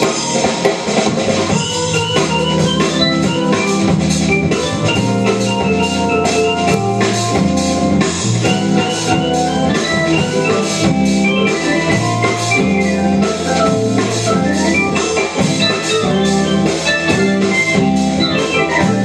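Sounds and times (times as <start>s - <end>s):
drum kit beat: 0.0s - 19.0s
organ chords: 0.0s - 19.0s
repeating bass line: 0.0s - 19.0s.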